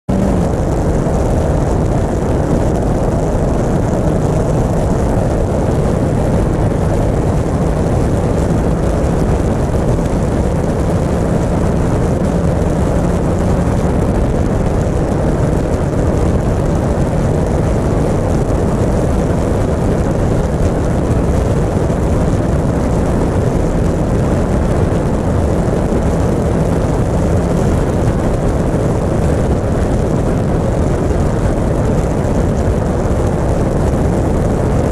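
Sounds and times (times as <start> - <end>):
heavy wind rush: 0.0 - 34.9
motorcycle engine drone: 0.0 - 34.9.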